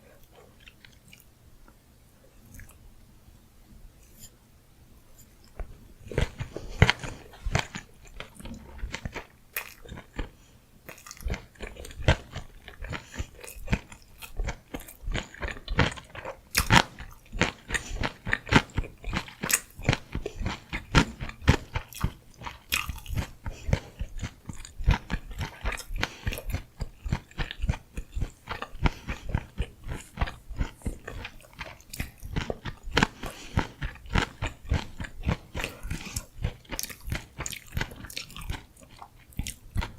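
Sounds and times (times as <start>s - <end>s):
close chewing with crunchy bites: 0.0s - 1.3s, 2.5s - 2.8s, 5.4s - 39.9s.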